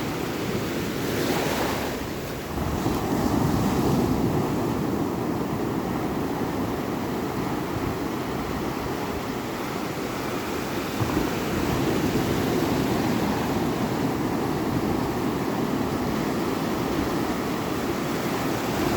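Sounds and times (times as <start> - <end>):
ocean waves washing on shore: 0.0 - 18.9.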